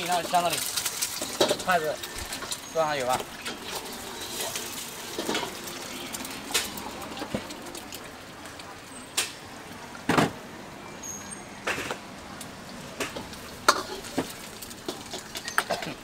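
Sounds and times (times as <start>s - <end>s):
background noise: 0.0s - 16.0s.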